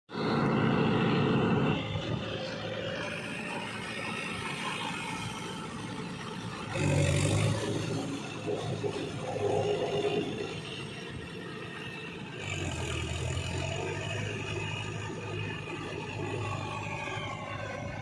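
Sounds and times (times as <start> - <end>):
tractor diesel engine under load: 0.1 - 18.0.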